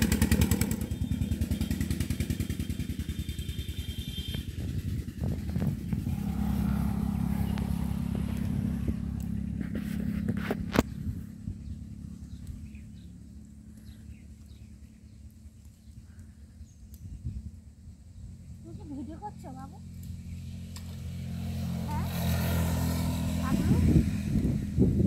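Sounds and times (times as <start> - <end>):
engine running: 0.0 - 16.5, 17.7 - 25.0.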